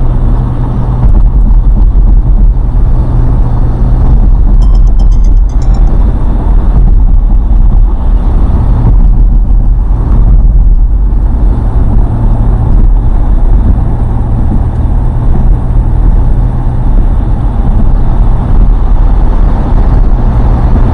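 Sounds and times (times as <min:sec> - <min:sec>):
faint engine hum: 0:00.0 - 0:20.9
low rumble of road traffic: 0:00.0 - 0:20.9.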